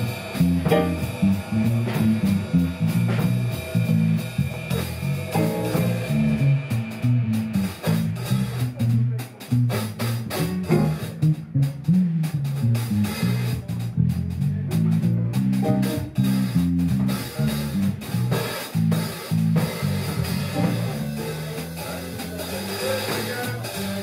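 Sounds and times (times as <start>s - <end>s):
bass guitar notes: 0.0s - 23.8s
jazz band playing: 0.0s - 24.0s.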